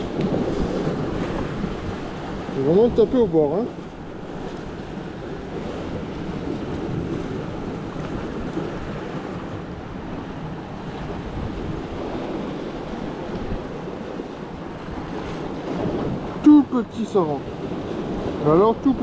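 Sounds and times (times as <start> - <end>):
sea surf against rocks: 0.0 - 19.0
wind on microphone: 0.0 - 19.0.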